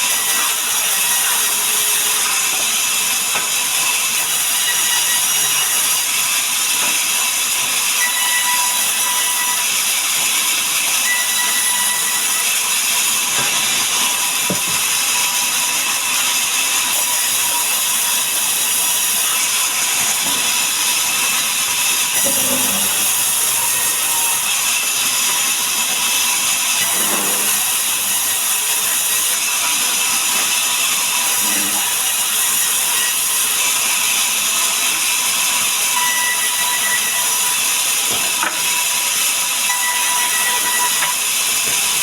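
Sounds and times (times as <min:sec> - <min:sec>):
sawmill saw cutting log: 0:00.0 - 0:42.0.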